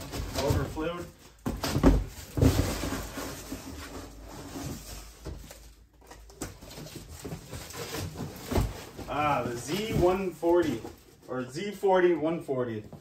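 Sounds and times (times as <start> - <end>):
cardboard scraping and rustling: 0.0 - 11.1.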